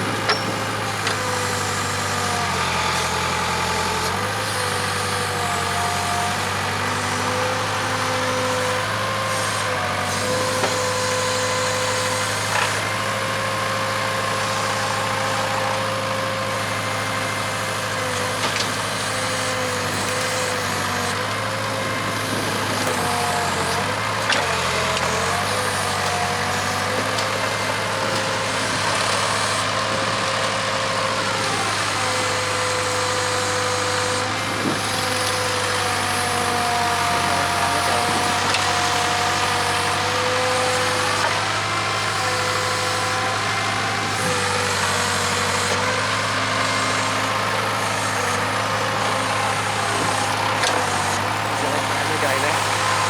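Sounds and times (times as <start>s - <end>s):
diesel engine running under load: 0.0s - 53.0s
hydraulic whine: 0.0s - 53.0s.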